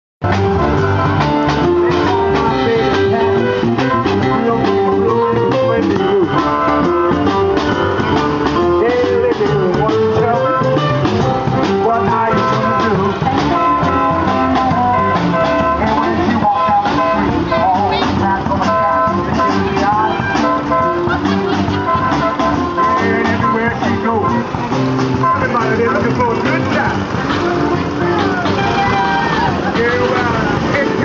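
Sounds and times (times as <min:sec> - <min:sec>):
electric keyboard: 0:00.2 - 0:31.0
guitar: 0:00.2 - 0:31.0
saxophone: 0:00.2 - 0:31.0
steady drum beat: 0:00.2 - 0:31.0.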